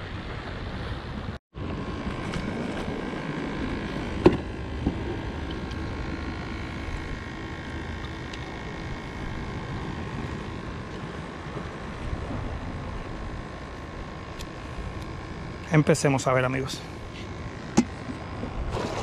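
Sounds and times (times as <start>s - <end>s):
wind: 0.0s - 19.0s
aerator pump whining: 1.5s - 19.0s.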